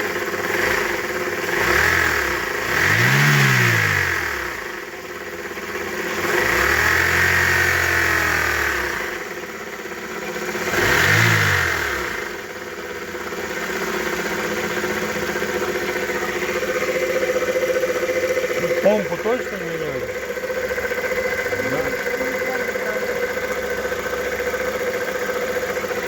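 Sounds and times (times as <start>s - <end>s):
car engine revving and idling: 0.0s - 26.0s
engine knocking and rattling: 0.0s - 26.0s.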